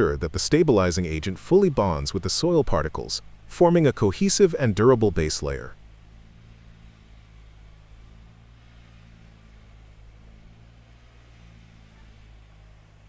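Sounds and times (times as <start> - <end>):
construction machine engine drone: 0.0 - 13.0.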